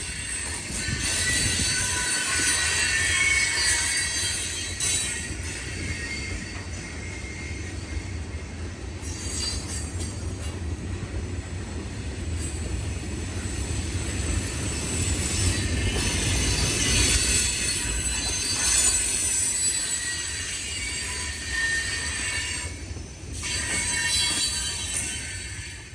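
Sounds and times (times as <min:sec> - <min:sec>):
train wheels squealing: 0:00.0 - 0:10.6, 0:12.3 - 0:25.9
freight train rumbling past: 0:00.0 - 0:25.9.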